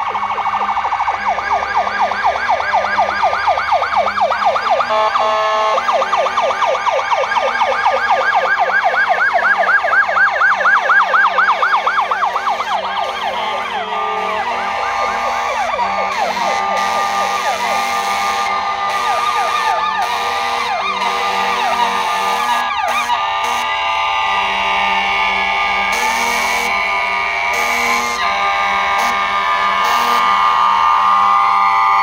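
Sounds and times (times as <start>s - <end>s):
emergency sirens yelping: 0.0s - 32.0s.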